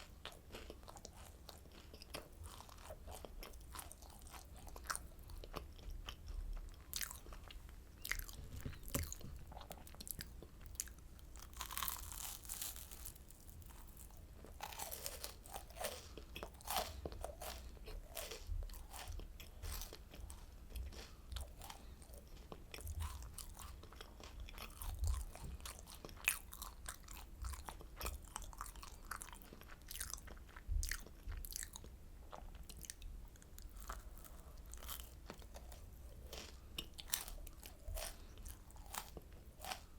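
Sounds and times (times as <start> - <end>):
person crunching crisp candy: 0.0 - 31.8, 32.4 - 39.9.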